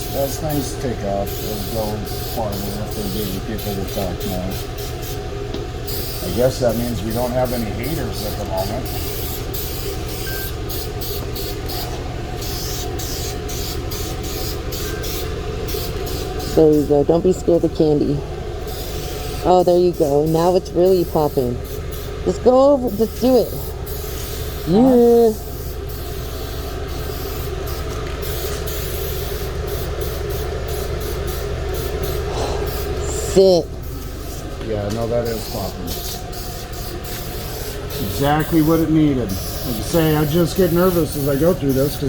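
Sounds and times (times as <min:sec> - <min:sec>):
paint spray hiss bursts: 0:00.0 - 0:05.2, 0:05.8 - 0:16.9, 0:18.6 - 0:22.2, 0:23.2 - 0:33.2, 0:33.8 - 0:34.6, 0:35.3 - 0:42.0
fan humming: 0:00.0 - 0:42.0.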